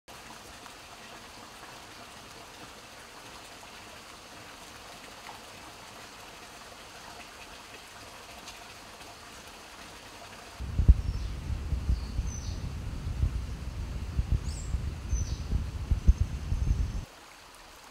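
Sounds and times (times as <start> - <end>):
stream trickling over stones: 0.1 - 17.9.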